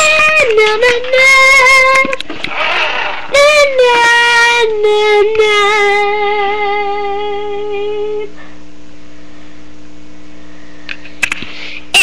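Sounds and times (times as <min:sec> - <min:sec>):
faint low electrical hum: 0:00.0 - 0:12.0.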